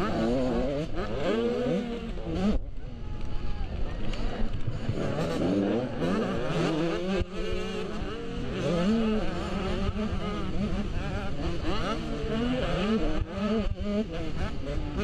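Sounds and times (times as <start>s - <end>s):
motocross bike engine revving: 0.0s - 15.0s
other dirt bikes running: 0.0s - 15.0s.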